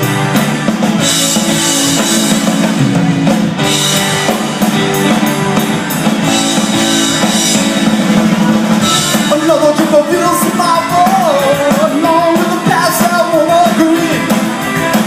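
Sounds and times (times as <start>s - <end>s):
bass guitar: 0.0s - 15.0s
drum kit beat: 0.0s - 15.0s
guitar: 0.0s - 15.0s.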